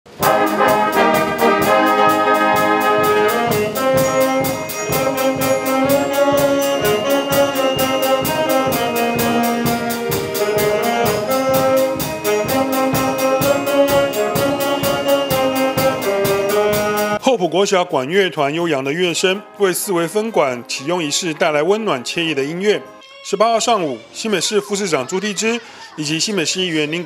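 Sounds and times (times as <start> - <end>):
school wind band playing: 0.1 - 17.2, 18.6 - 23.1.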